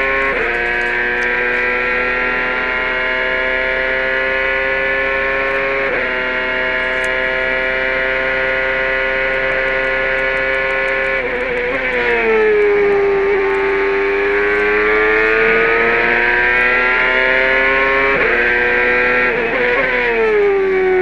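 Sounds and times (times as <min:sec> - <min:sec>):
race car engine at full throttle: 0:00.0 - 0:21.0.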